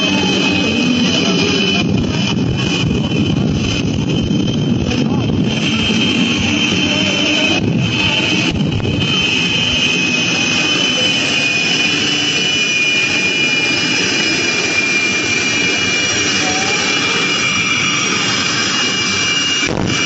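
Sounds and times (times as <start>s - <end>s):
jet engine rushing and whining: 0.0s - 20.0s.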